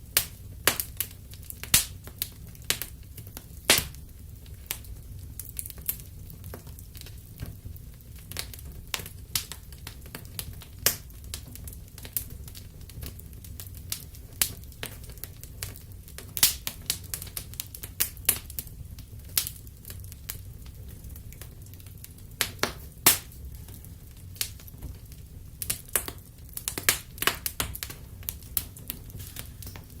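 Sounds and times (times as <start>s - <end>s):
low rumble of burning fire: 0.0s - 30.0s
wood fire crackling: 0.0s - 30.0s.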